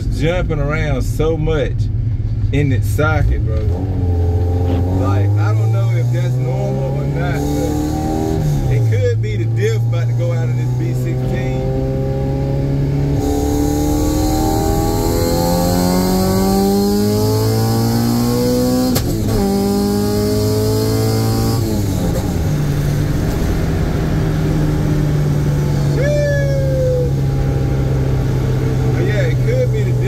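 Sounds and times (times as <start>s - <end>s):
car engine revving under full throttle: 2.9s - 30.0s.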